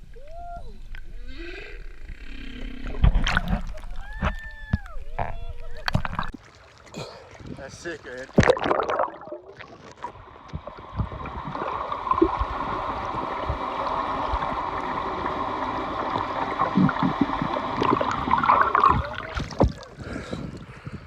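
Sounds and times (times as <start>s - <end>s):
water rushing around boat: 2.9s - 20.5s.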